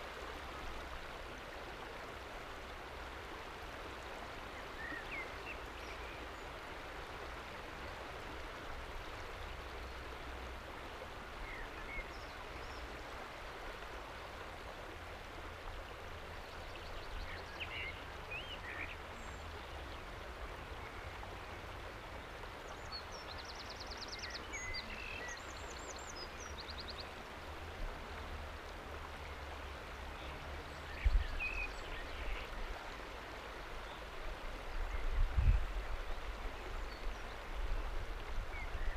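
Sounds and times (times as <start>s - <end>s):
river water flowing over rock: 0.0s - 38.9s.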